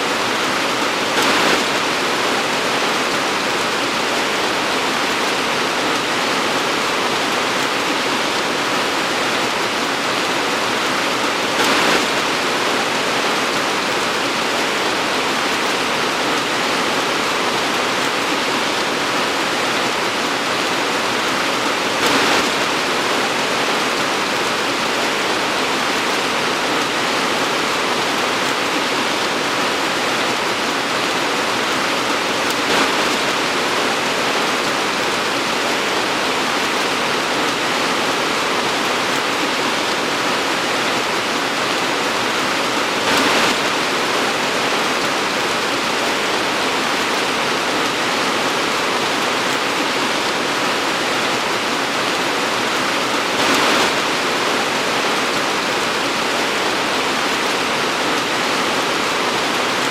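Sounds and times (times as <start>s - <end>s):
torrential rain pouring: 0.0s - 59.9s.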